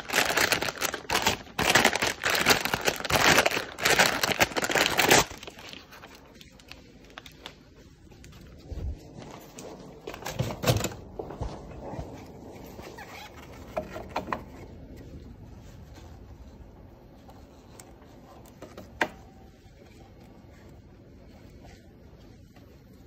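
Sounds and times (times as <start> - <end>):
plastic wrap crinkling: 0.0 - 23.0.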